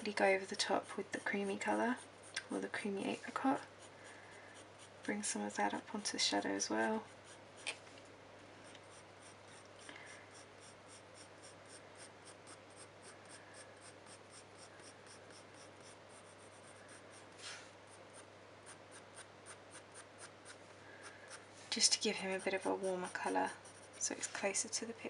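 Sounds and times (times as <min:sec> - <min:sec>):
pencil scratching on paper: 0:00.0 - 0:07.8, 0:08.8 - 0:09.7, 0:10.3 - 0:20.6, 0:21.3 - 0:24.8.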